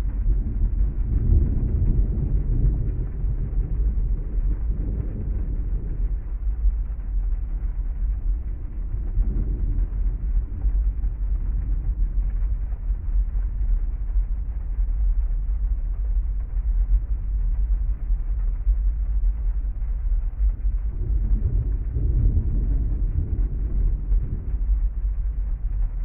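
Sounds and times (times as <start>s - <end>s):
deep thunder rumble: 0.0s - 26.0s
muffled heavy rain: 0.0s - 26.0s.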